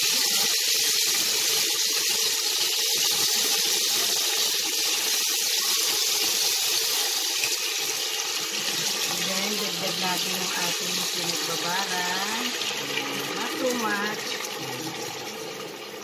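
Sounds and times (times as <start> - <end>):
prawns sizzling in a pan: 0.0 - 16.0.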